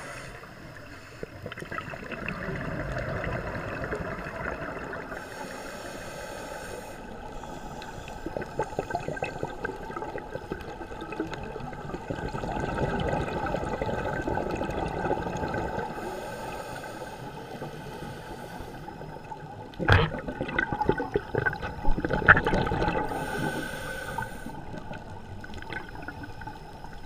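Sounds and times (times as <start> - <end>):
underwater bubbles gurgling: 0.0 - 27.0.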